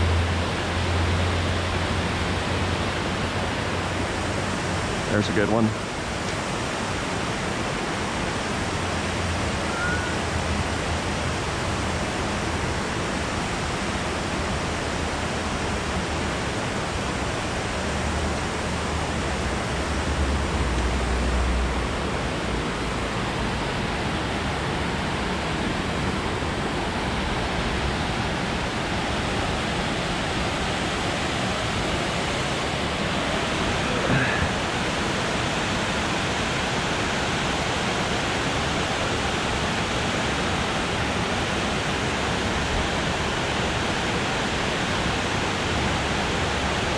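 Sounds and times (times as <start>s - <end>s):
water rushing over spillway: 0.0s - 46.9s.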